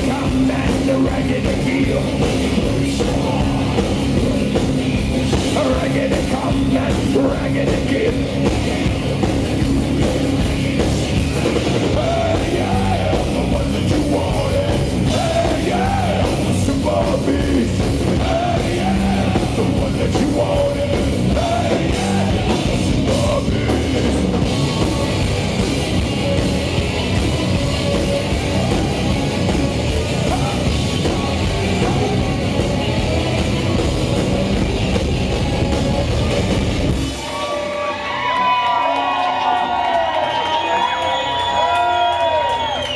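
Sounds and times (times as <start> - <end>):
vocalist singing and yelling: 0.0 - 37.6
bass guitar: 0.0 - 38.4
drum kit: 0.0 - 38.4
electric guitar: 0.0 - 40.9.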